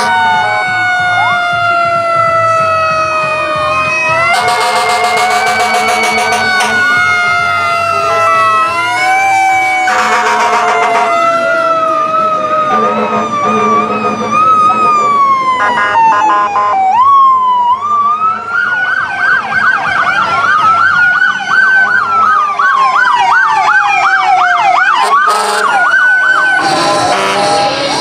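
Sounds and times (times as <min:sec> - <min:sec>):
emergency vehicle sirens wailing: 0:00.0 - 0:28.0
siren blare: 0:00.0 - 0:28.0.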